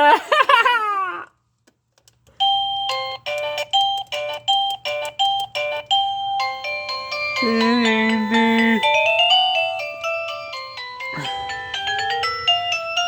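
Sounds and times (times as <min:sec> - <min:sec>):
electronic doorbell chime melody: 0:02.4 - 0:13.0.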